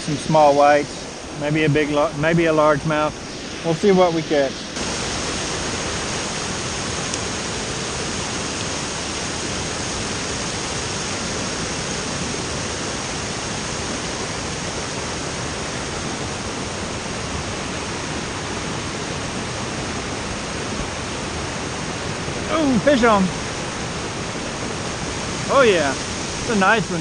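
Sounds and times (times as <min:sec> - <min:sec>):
water rushing over a dam: 0:00.0 - 0:27.0.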